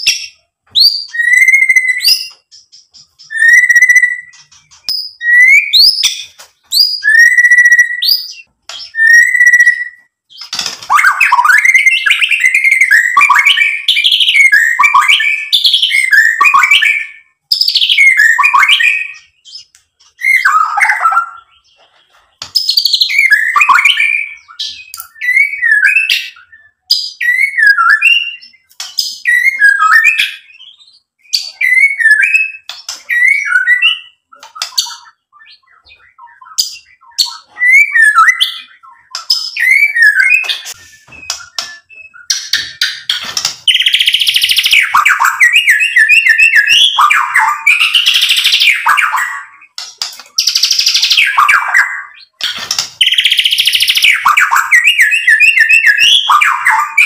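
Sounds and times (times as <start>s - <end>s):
bird singing whistled phrases: 0.0s - 21.8s, 22.6s - 43.1s, 43.7s - 57.0s.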